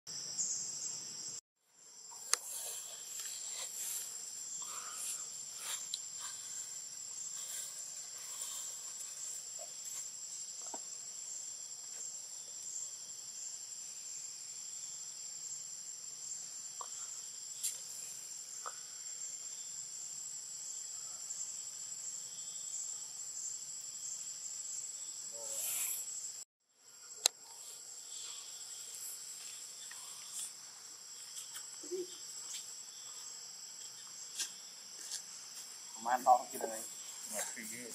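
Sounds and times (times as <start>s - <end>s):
high-pitched insect chorus: 0.1s - 37.9s.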